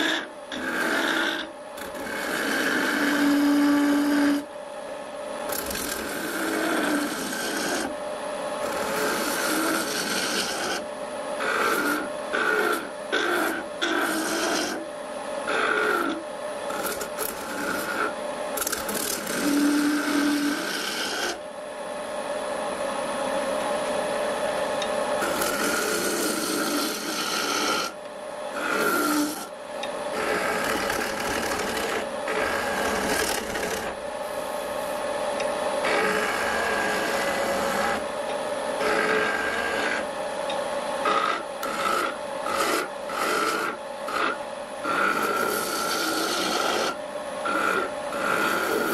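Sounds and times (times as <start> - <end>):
turning tool cutting wood: 0.0 - 4.5, 5.4 - 21.4, 24.8 - 40.3, 40.9 - 48.9
wood lathe humming: 0.0 - 22.0, 23.6 - 48.9.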